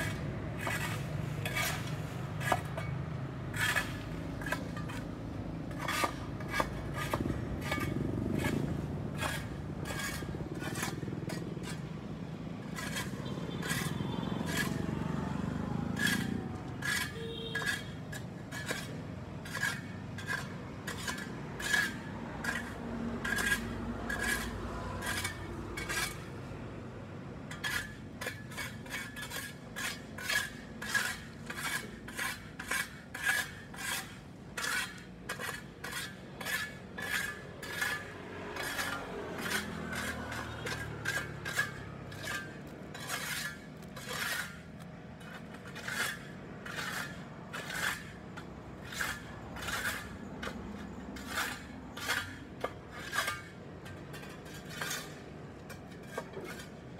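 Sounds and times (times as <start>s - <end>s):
hand tool scraping sidewalk: 0.0s - 56.9s.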